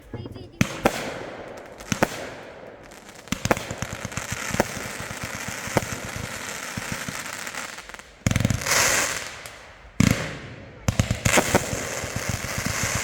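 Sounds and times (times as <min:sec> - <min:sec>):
fireworks bangs: 0:00.0 - 0:13.0
fireworks crackling pops: 0:00.0 - 0:13.0.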